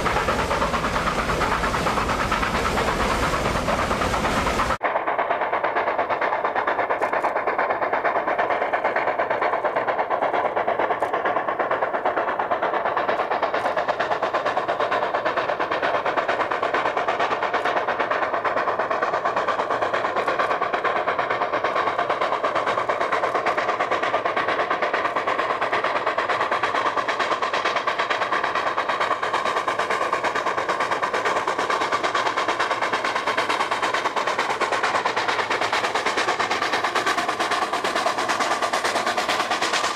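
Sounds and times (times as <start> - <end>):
steam locomotive exhaust beating: 0.0 - 39.9.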